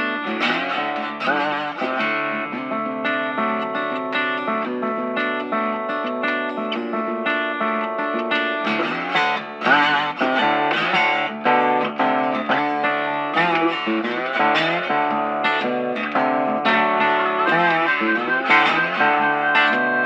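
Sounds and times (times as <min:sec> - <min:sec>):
electric guitar plucked notes: 0:00.0 - 0:20.0.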